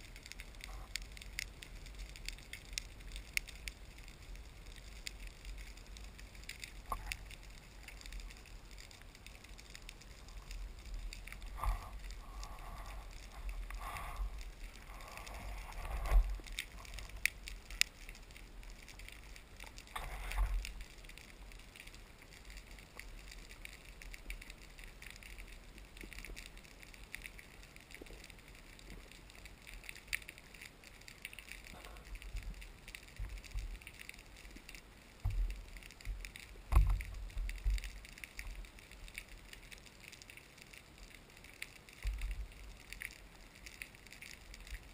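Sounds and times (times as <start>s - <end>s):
low water rumble: 0.0s - 44.9s
underwater crackle of clicks: 0.0s - 44.9s.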